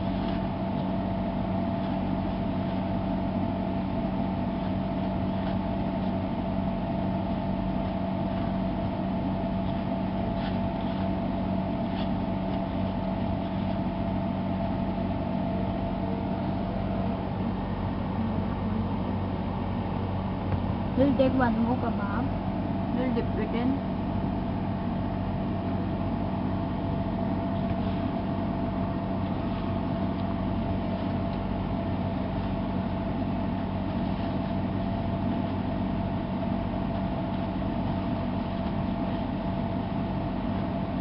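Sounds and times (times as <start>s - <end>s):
mechanical hum: 0.0s - 41.0s.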